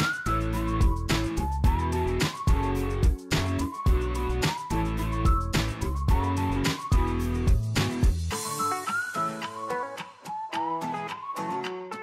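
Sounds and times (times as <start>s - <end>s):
plucked string melody with beat: 0.0s - 12.0s.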